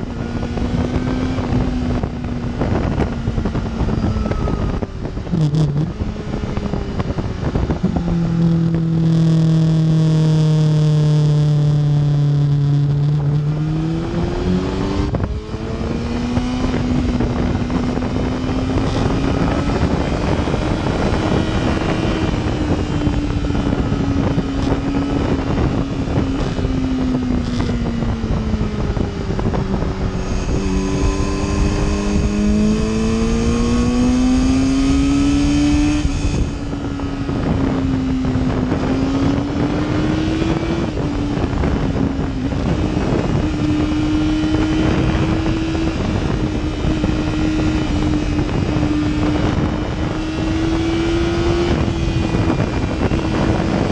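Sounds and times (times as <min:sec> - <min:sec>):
motorcycle engine revving: 0:00.0 - 0:53.9
wind noise on microphone: 0:00.0 - 0:53.9.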